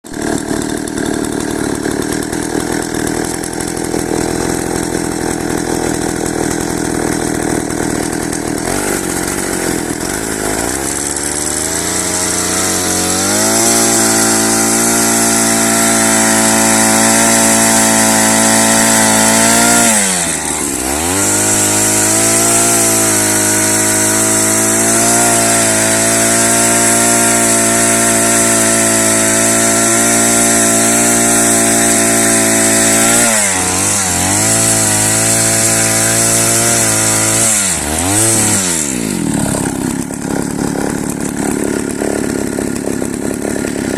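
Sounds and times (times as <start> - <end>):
chainsaw sawing wood: 0.0 - 43.9.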